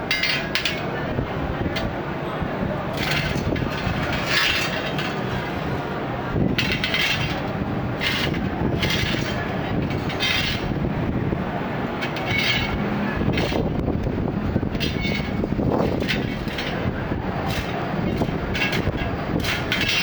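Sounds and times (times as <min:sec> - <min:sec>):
steel bars clanging on pavement: 0:00.0 - 0:20.0
street traffic rumble: 0:00.0 - 0:20.0.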